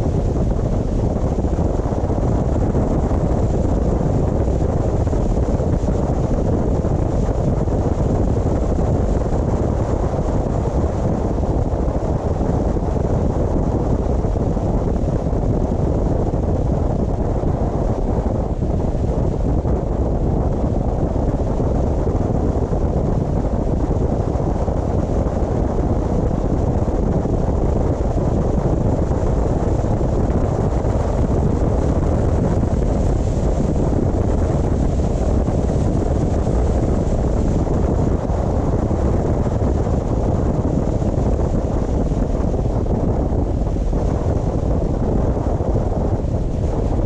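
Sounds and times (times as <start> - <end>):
wind noise: 0.0 - 47.0.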